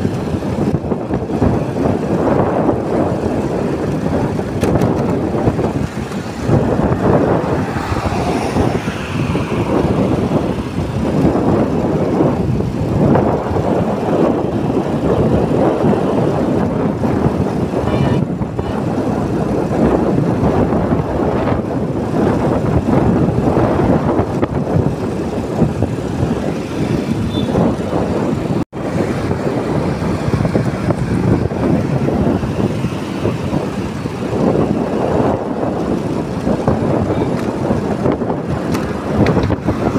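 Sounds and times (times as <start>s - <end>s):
motorcycle road rush: 0.0s - 39.9s
wind buffeting microphone: 0.0s - 39.9s.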